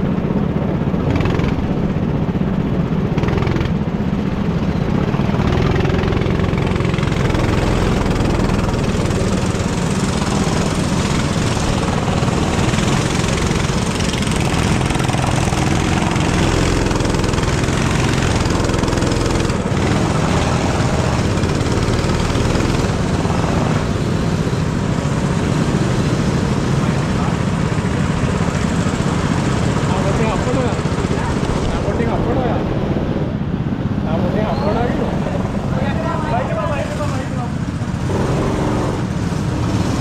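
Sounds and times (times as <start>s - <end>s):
go-kart engine running: 0.0s - 40.0s.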